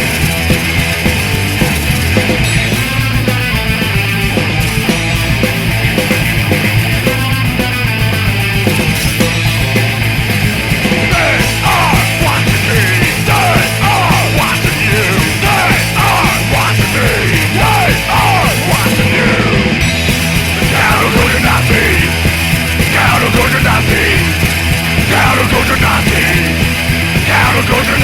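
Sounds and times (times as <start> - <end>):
distorted punk band playing: 0.0 - 28.0
yelled vocals: 0.9 - 28.0.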